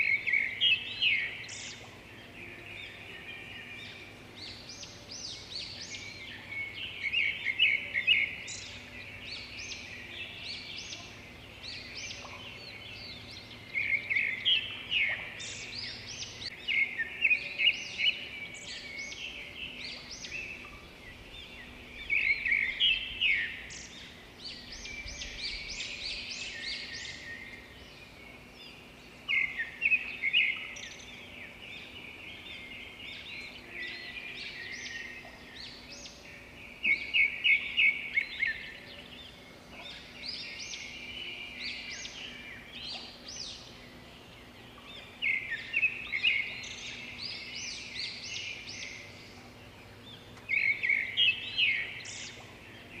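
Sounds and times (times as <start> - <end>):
birds chirping and twittering: 0.0 - 53.0.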